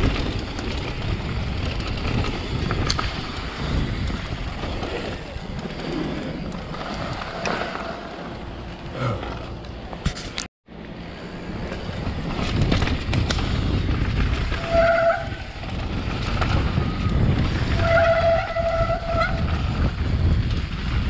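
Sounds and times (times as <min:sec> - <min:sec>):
wind on microphone: 0:00.0 - 0:07.8, 0:11.7 - 0:21.0
bike tyres rumbling on dirt: 0:00.0 - 0:21.0.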